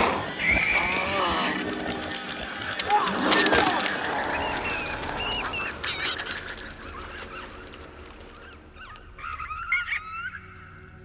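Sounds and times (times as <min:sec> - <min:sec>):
small creatures chirping: 0:00.0 - 0:11.0.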